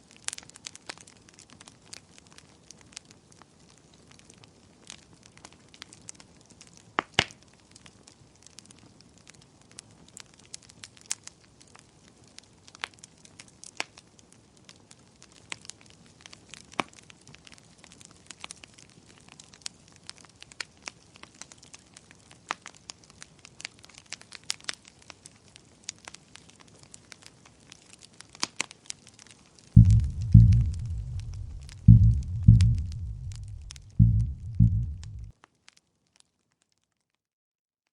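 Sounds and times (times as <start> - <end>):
campfire crackling: 0.0 - 35.3.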